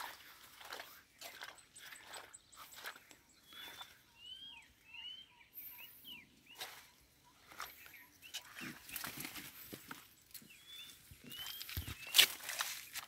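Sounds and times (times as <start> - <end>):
faint bird chirps: 0.0 - 12.7.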